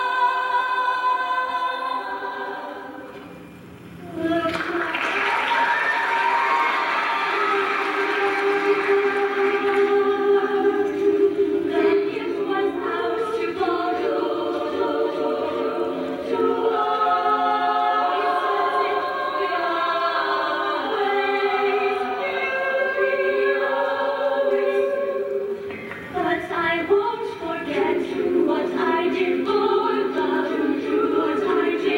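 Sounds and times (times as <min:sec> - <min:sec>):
women's choir singing: 0:00.0 - 0:03.2, 0:04.0 - 0:31.9.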